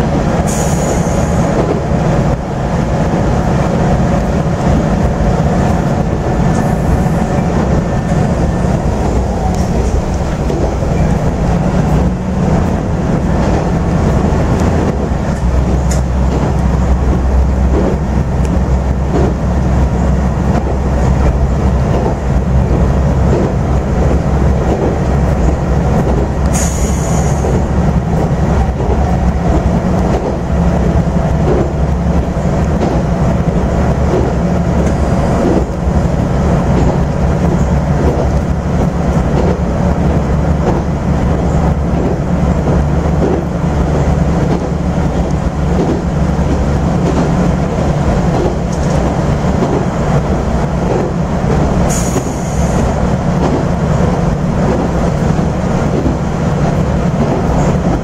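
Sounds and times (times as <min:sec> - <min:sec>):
diesel engine drone: 0:00.0 - 0:58.0
rail-joint clicks: 0:00.0 - 0:58.0
wheels rumbling on rails: 0:00.0 - 0:58.0.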